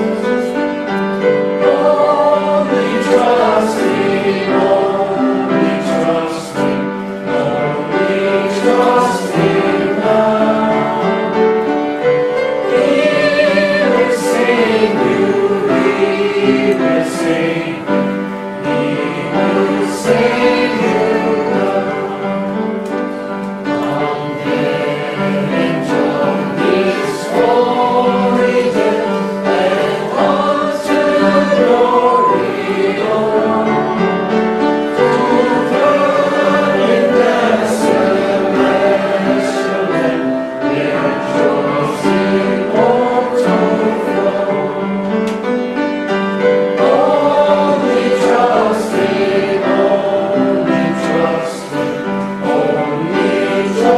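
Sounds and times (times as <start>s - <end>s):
group singing a hymn: 0.0s - 53.9s.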